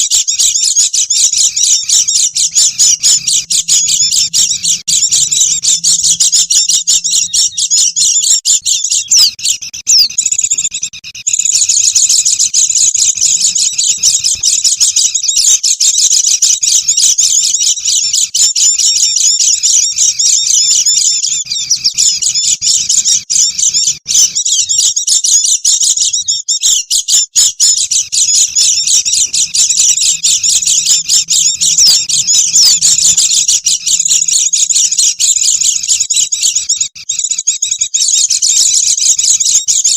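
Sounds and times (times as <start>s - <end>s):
flock of birds twittering: 0.0s - 39.9s.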